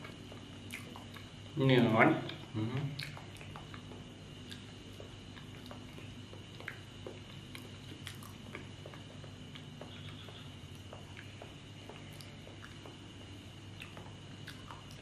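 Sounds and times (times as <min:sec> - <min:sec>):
person chewing banana: 0:00.0 - 0:01.6, 0:02.2 - 0:15.0
steady low hum: 0:00.0 - 0:15.0.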